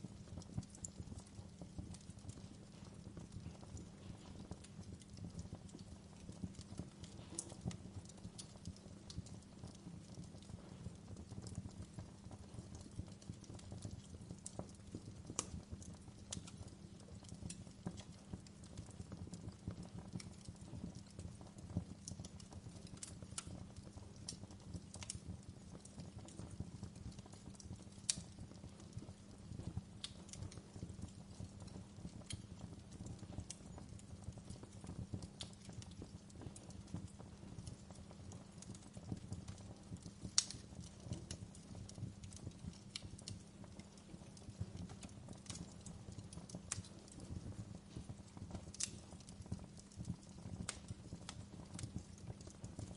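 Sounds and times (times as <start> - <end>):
low rumble of flames: 0.0 - 52.9
wood fire crackling: 0.0 - 52.9.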